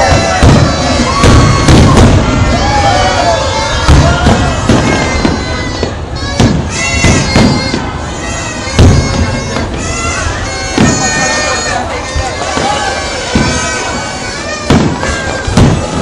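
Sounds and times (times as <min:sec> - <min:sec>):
fireworks booming: 0:00.0 - 0:16.0.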